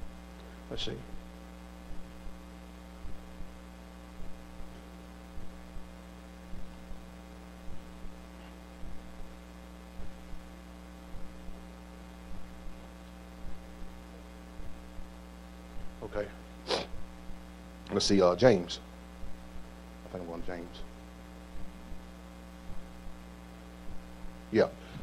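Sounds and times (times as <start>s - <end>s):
electrical mains hum: 0.0s - 25.0s
faint low thumps: 0.0s - 25.0s.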